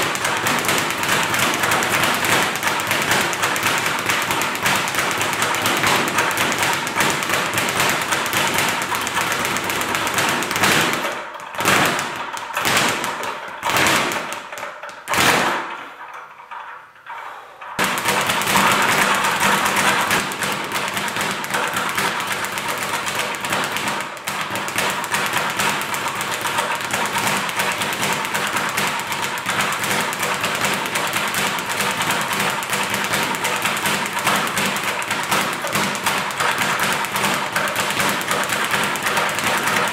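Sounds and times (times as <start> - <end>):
speed bag rattling: 0.0 - 15.6, 17.8 - 39.9.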